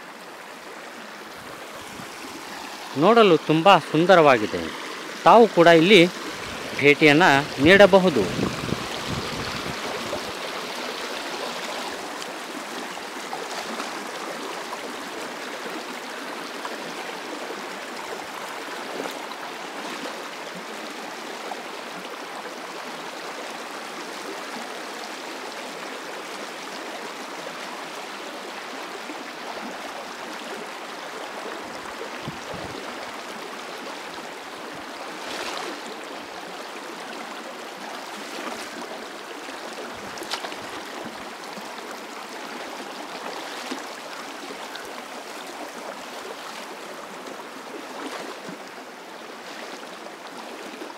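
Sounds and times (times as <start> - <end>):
river water flowing over stones: 0.0 - 50.9.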